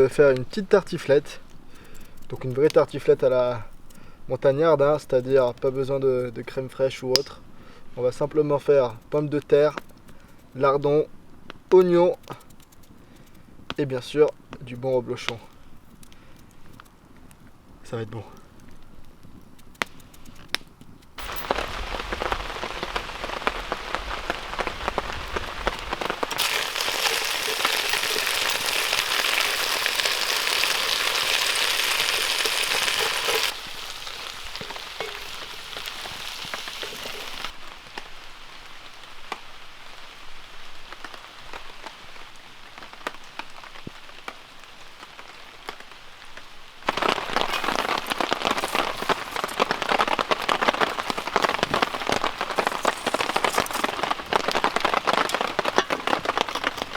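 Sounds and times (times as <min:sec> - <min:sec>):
rain pattering on a tarp: 0:00.0 - 0:56.9.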